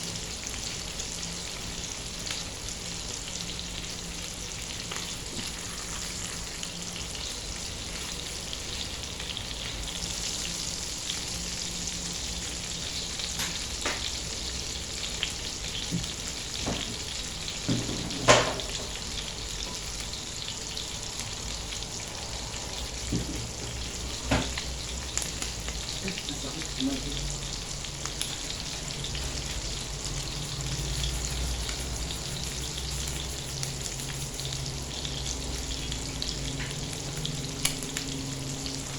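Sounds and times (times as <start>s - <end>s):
chicken sizzling in a pan: 0.0s - 38.9s.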